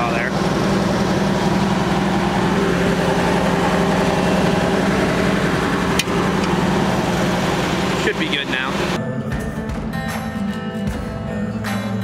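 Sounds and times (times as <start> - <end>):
forage chopper engine running: 0.0 - 11.9.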